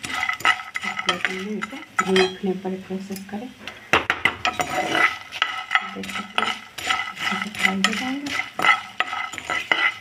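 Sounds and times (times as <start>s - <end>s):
metal ladle scraping a pan: 0.0s - 2.4s, 4.3s - 10.0s
puffed rice roasting in a pan: 0.0s - 10.0s.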